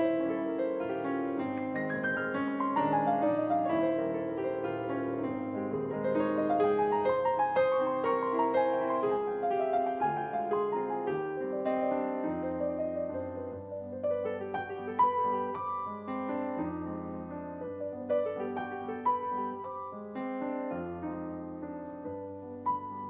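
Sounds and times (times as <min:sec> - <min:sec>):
piano march: 0:00.0 - 0:23.0.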